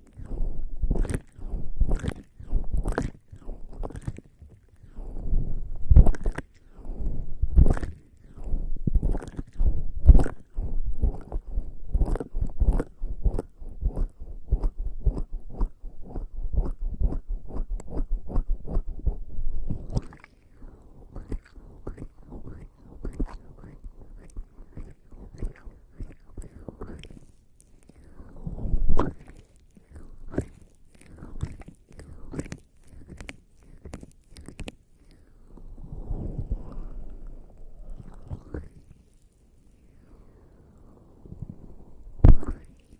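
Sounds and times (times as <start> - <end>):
wet skin squelching on microphone: 0.0 - 20.3, 21.1 - 35.2, 42.1 - 42.9.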